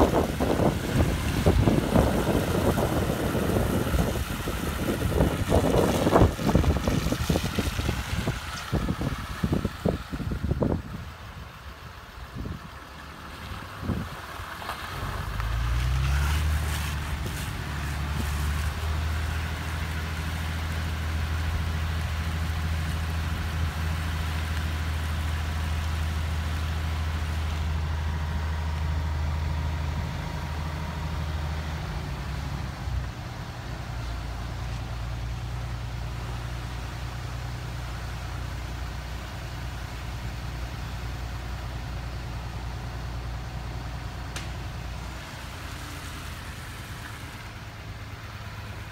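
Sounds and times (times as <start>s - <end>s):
road noise inside cab: 0.0s - 48.9s
vehicle engine: 0.0s - 48.9s.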